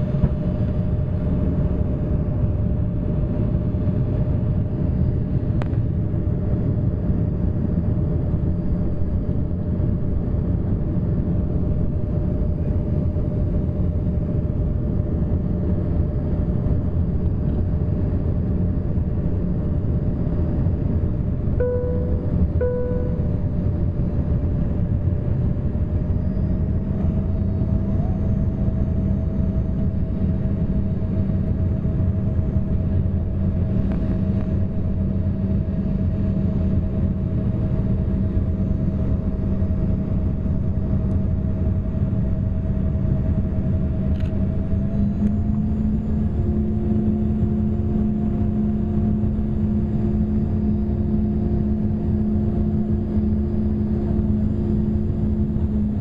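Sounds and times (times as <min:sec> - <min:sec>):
jet engines droning: 0:00.0 - 0:56.0.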